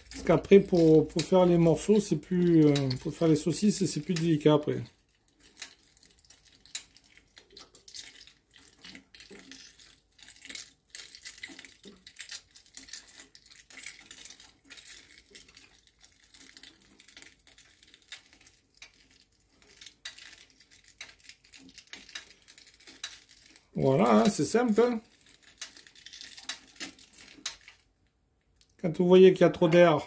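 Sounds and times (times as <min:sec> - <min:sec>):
wet squelching of sausage filling: 0:00.0 - 0:29.1.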